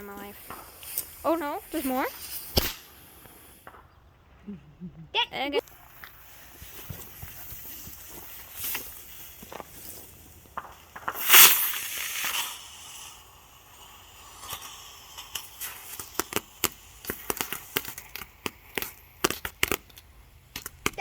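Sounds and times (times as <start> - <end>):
firework burst with hiss: 0.0 - 3.8, 5.6 - 21.0
firework crackling pops: 0.0 - 4.5, 5.6 - 21.0.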